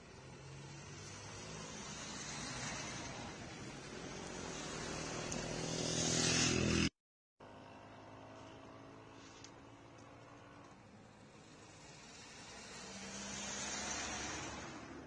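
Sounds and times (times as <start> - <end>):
vehicle engine approaching: 0.0 - 15.0.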